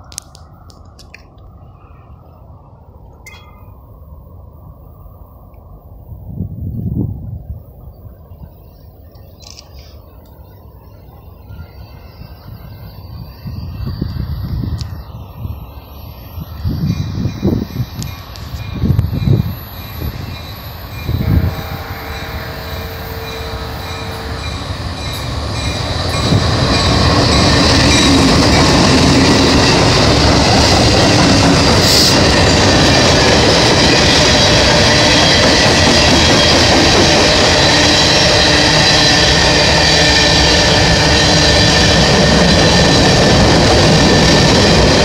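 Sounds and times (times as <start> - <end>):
diesel locomotive passing: 0.0 - 45.0
steel wheels on rail: 6.8 - 45.0.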